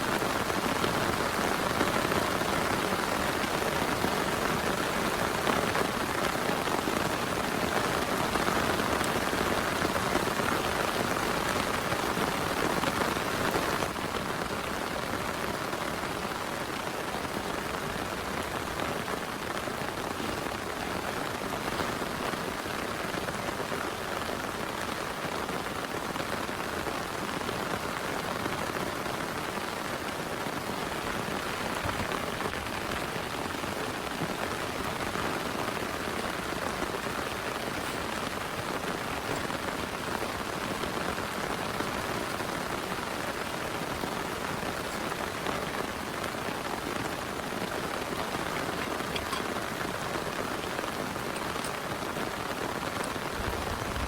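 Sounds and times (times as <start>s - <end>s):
heavy rain hiss: 0.0s - 54.0s.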